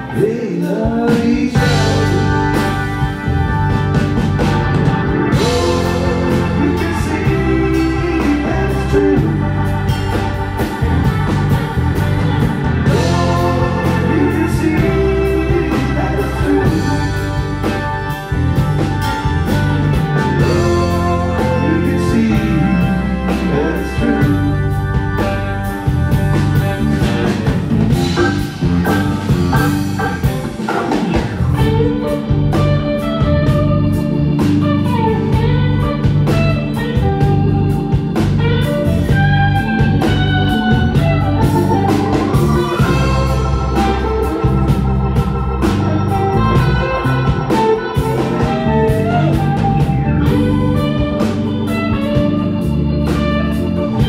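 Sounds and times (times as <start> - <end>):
live band music: 0.0 - 54.0
organ: 0.0 - 54.0.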